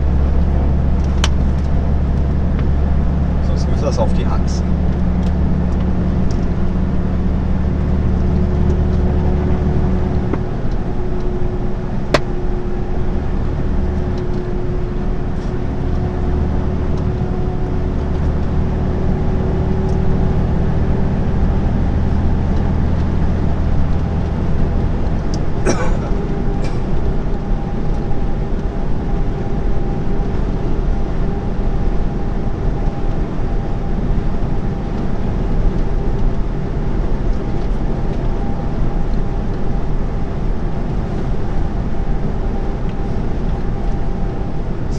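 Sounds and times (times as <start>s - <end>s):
truck engine drone: 0.0s - 44.9s
tyre and road noise: 0.0s - 44.9s.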